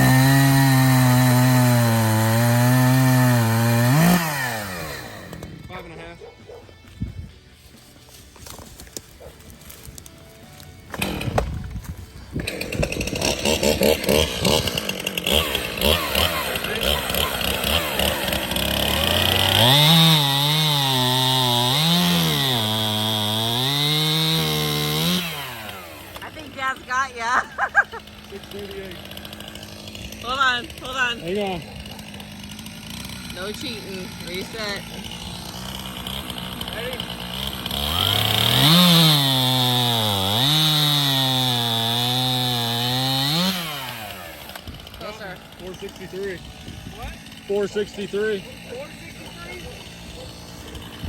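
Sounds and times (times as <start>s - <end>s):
chainsaw cutting through log: 0.0s - 6.9s, 7.6s - 51.0s.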